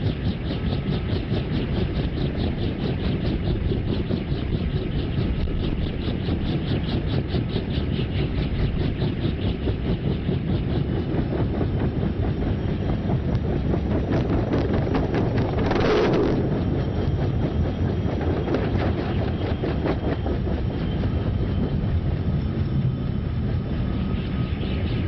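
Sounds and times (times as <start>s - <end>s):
helicopter rotor chopping: 0.0s - 25.0s.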